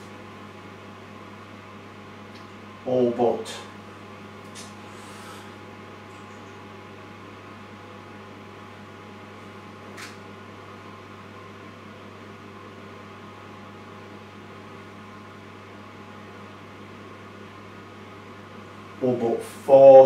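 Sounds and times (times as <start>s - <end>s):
kitchen appliance electrical hum: 0.0s - 20.0s.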